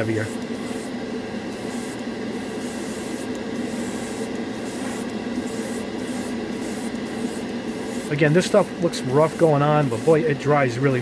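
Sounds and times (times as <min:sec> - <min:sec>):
spray booth fan hum: 0:00.0 - 0:11.0
airbrush spraying hiss: 0:00.2 - 0:11.0.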